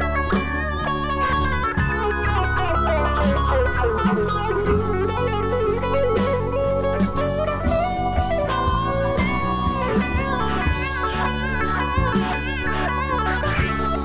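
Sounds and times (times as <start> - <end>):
drum kit and cymbals: 0.0 - 14.0
electric guitar lead: 0.0 - 14.0
keyboard chords: 0.0 - 14.0.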